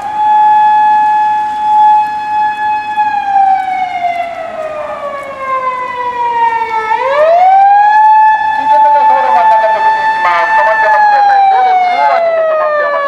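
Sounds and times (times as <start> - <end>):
police car siren wailing: 0.0 - 13.0.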